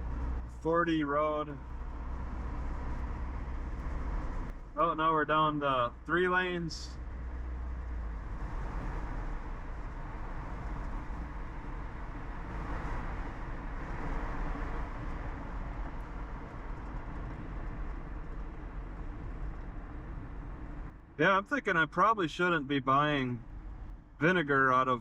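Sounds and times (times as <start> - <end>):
car road noise rumble: 0.0 - 25.0.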